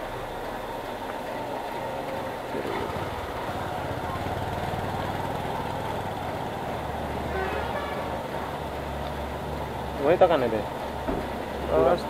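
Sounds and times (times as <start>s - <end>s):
fuel pump motor hum: 0.0s - 12.0s.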